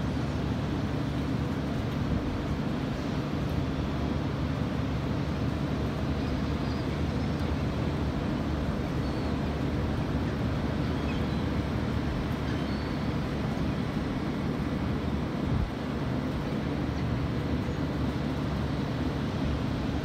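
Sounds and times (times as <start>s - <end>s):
ocean surf: 0.0s - 20.0s.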